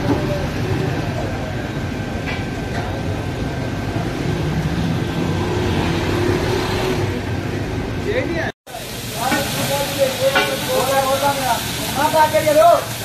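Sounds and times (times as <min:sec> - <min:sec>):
low rumbling street noise: 0:00.0 - 0:13.0.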